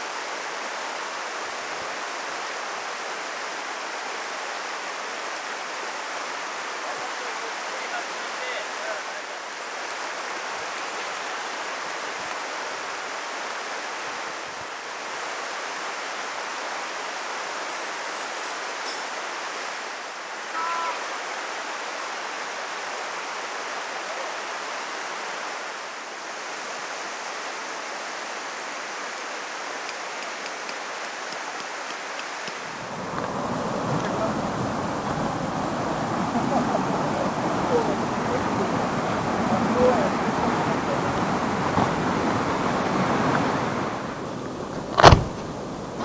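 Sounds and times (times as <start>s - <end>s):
stream flowing: 0.0s - 46.0s.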